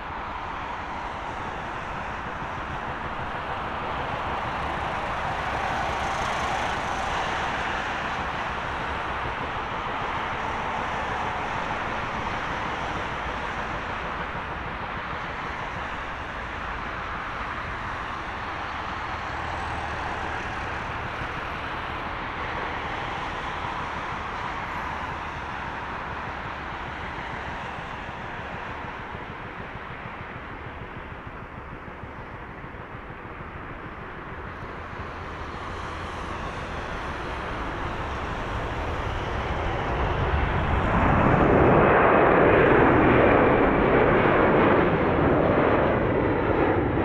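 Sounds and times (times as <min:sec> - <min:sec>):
jet engines at takeoff thrust: 0:00.0 - 0:47.0.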